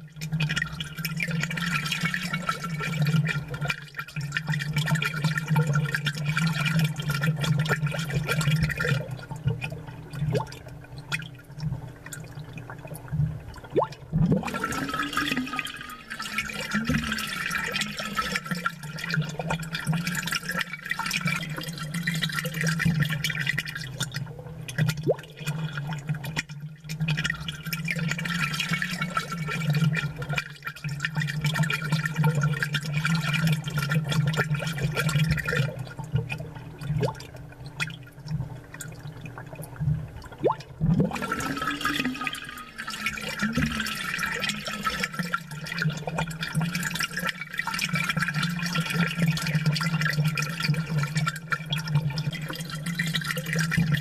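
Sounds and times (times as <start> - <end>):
air bubbles and churning water: 0.0 - 54.0
aquarium pump hum: 0.0 - 54.0.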